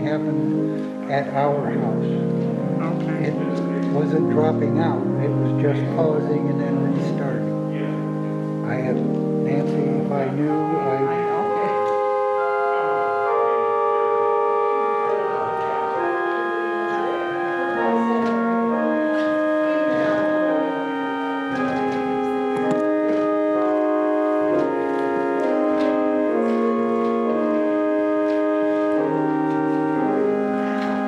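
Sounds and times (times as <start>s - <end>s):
organ playing sustained chords: 0.0s - 31.0s.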